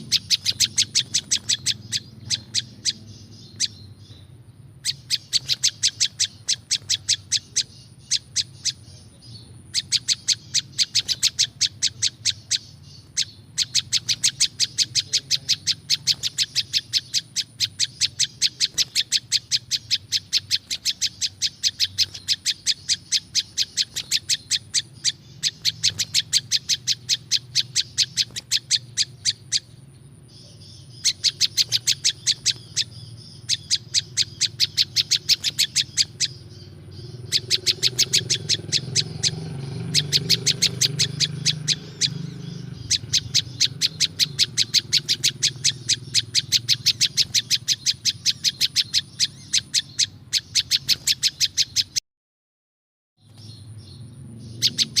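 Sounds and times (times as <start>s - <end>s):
soft warbling twitter: 0.0s - 52.0s
songbird rapid chip notes: 0.0s - 52.0s, 53.2s - 55.0s.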